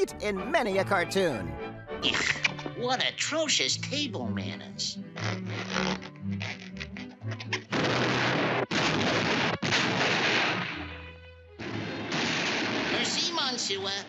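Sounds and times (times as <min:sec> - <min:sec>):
orchestral music: 0:00.0 - 0:12.2.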